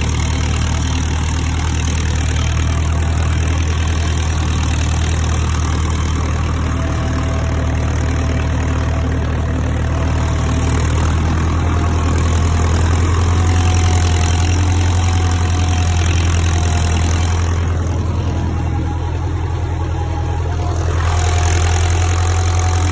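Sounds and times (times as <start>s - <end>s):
tractor diesel engine droning: 0.0s - 22.9s.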